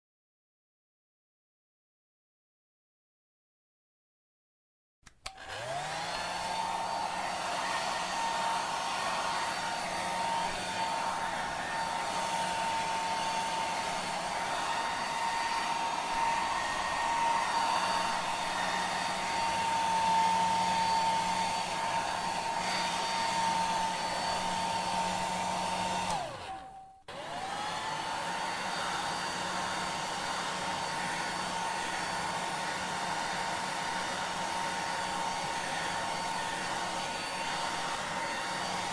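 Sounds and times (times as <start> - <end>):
hair dryer motor whine: 5.2 - 38.9.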